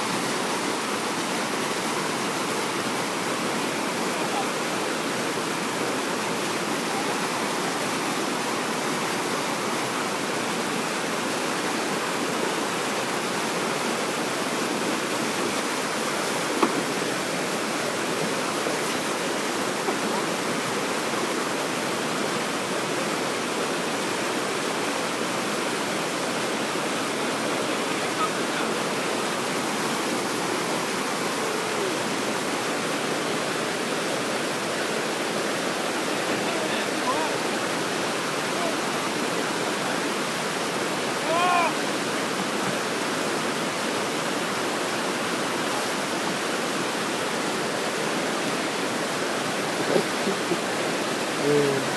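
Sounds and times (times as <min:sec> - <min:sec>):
water rushing over weir: 0:00.0 - 0:51.9.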